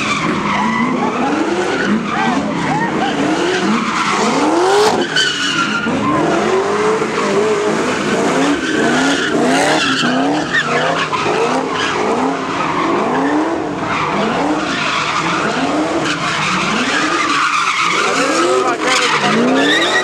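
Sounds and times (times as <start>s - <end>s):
car engine revving: 0.0s - 20.0s
tyres screeching on pavement: 0.0s - 20.0s.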